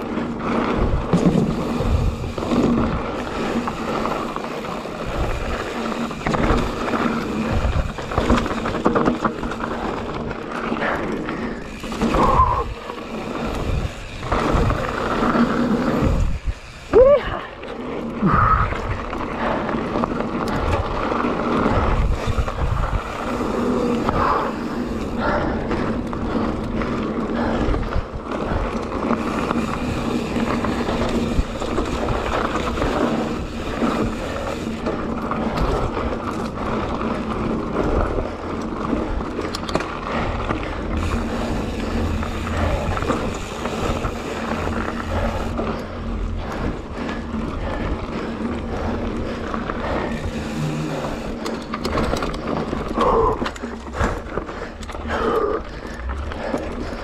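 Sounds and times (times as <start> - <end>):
bike knocking and rattling: 0.0 - 57.0
bike tyres crunching on gravel: 0.0 - 57.0
wind buffeting microphone: 0.3 - 8.9, 11.6 - 17.3, 18.2 - 57.0.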